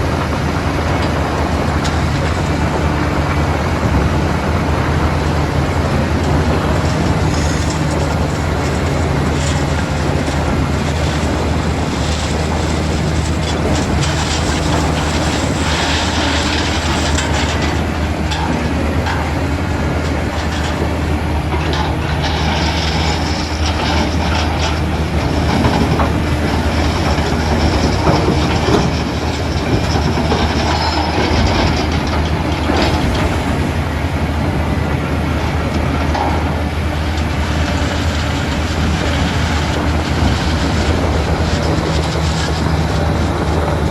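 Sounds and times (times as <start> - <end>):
diesel engine under load: 0.0 - 43.9
metal rattling and clanking: 0.7 - 43.9.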